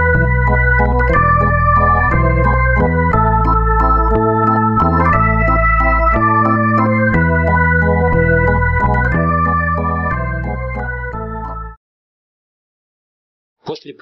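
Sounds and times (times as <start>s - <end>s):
instrumental background music: 0.0s - 11.8s.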